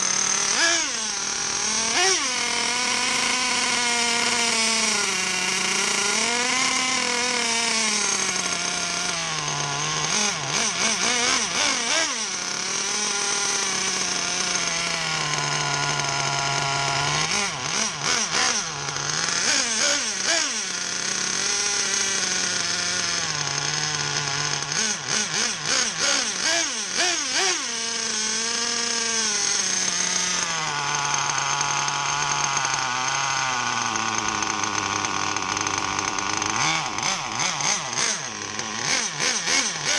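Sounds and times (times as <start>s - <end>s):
engine revving bursts: 0.0s - 39.9s
nitro engine running: 0.0s - 39.9s.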